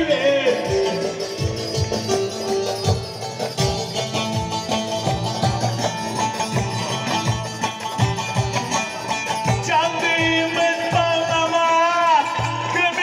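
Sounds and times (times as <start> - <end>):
held gliding melody line: 0.0 - 11.0
live folk dance music: 0.0 - 13.0
plucked lutes: 0.0 - 13.0.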